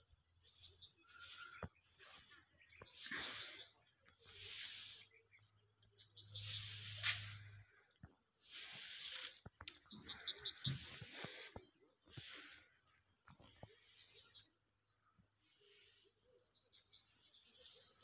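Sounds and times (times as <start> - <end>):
birds calling: 0.0 - 18.0
sharp bird chirps: 0.0 - 18.0.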